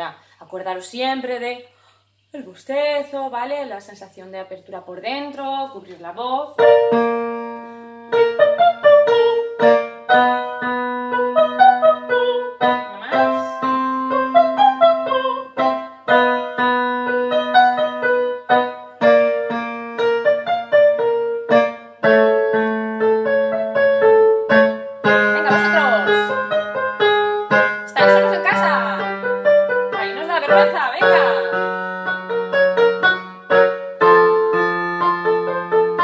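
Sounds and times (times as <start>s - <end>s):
digital piano playing: 6.6s - 36.0s.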